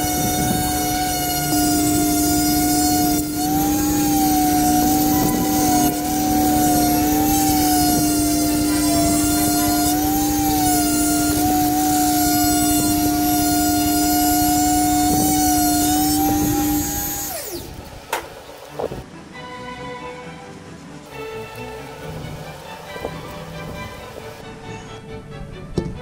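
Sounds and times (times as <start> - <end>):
rotary tool whining: 0.0 - 19.1, 21.1 - 24.4.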